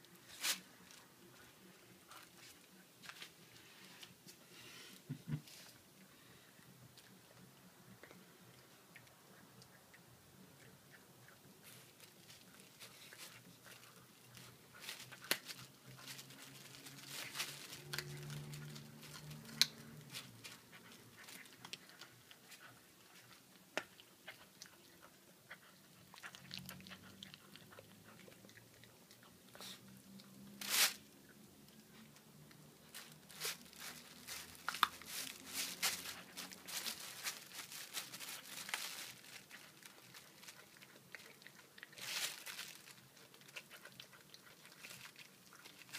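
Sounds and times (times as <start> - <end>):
puppy chewing raw meat: 6.7 - 45.9.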